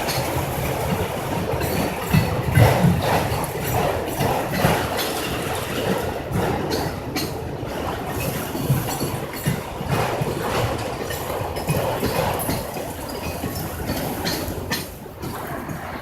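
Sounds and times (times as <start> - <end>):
freight train wheels rumbling: 0.0 - 16.0
wheels knocking on rails: 0.0 - 16.0.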